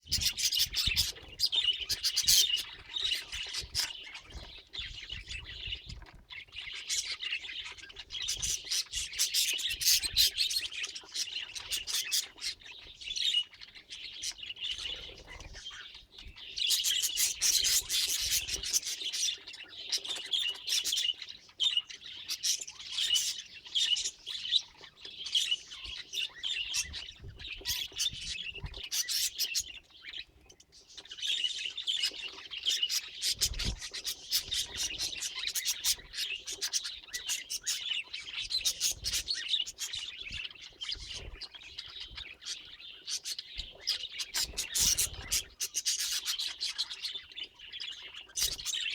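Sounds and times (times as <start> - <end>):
budgerigars chattering: 0.0 - 48.9.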